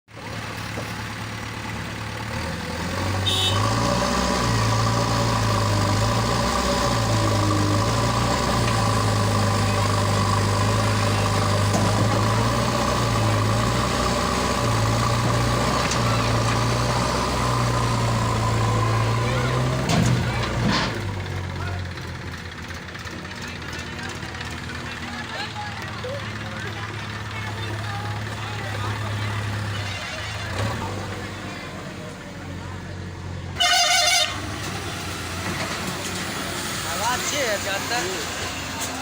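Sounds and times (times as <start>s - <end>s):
diesel engine running: 0.1s - 39.0s.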